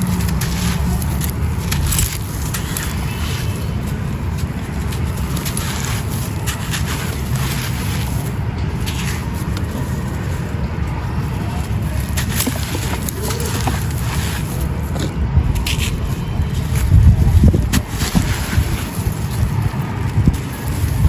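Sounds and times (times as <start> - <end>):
concrete chunks crunching: 0.0 - 21.0
wind rumbling on microphone: 0.0 - 21.0.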